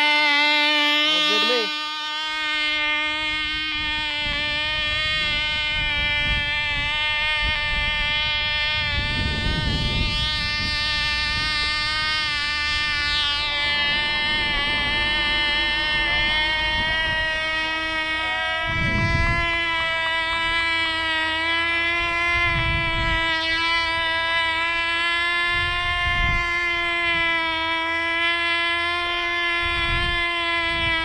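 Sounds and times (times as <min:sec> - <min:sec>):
model plane engine buzzing: 0:00.0 - 0:31.0
wind noise on microphone: 0:00.0 - 0:31.0.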